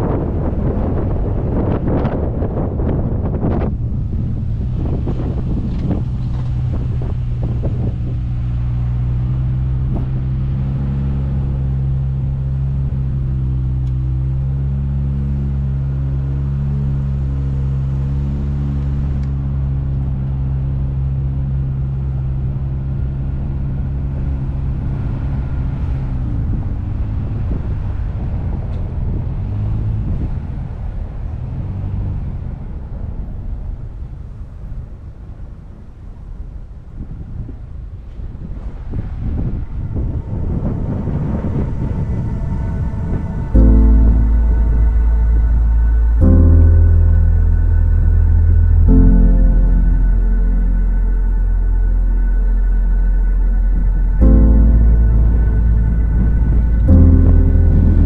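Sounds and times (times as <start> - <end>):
wind buffeting microphone: 0.0 - 49.2, 50.6 - 58.0
car engine pulling uphill: 0.0 - 58.0.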